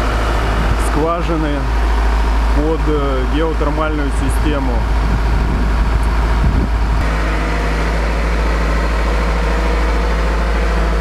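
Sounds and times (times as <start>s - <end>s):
drilling rig engine rumbling: 0.0s - 11.0s.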